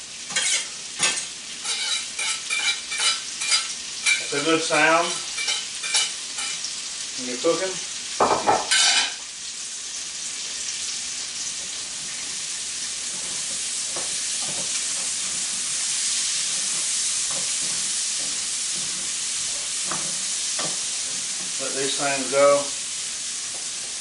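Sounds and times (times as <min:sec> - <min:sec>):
onions sizzling in a frying pan: 0:00.0 - 0:24.0.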